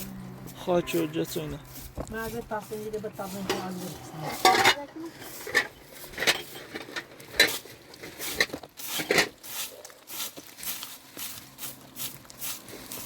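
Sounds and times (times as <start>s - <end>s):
hand tools scraping soil and plaster: 0.0s - 13.0s.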